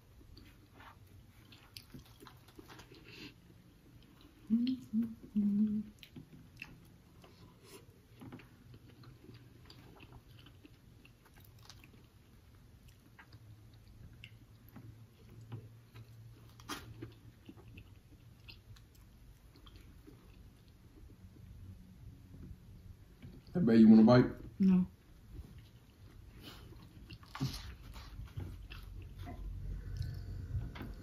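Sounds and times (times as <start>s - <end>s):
chewing and biting food: 0.0s - 4.8s, 5.9s - 21.5s, 25.3s - 31.0s
low hummed sounds: 0.0s - 23.5s, 24.4s - 31.0s.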